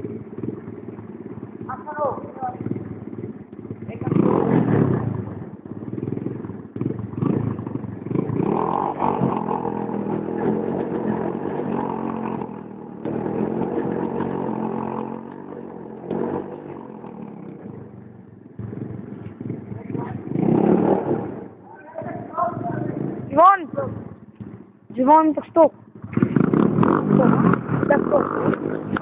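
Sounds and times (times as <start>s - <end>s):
small motorbike engine revving: 0.0s - 29.0s.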